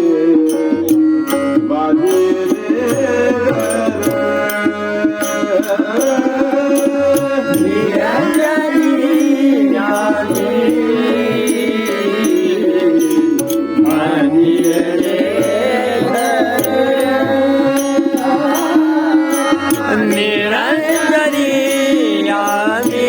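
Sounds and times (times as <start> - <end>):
devotional song with held notes: 0.0 - 23.0
percussion beat: 0.0 - 23.0.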